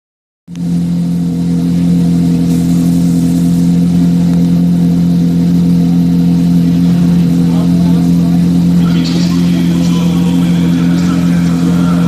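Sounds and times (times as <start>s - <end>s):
race car engine idling: 0.5s - 12.0s.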